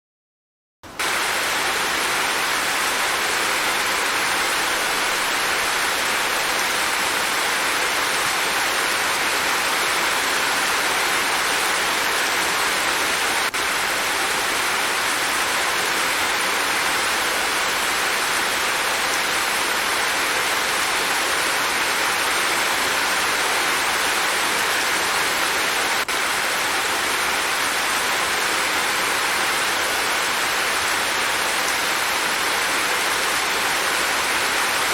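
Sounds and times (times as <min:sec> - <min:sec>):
steady rain: 0:00.9 - 0:34.9.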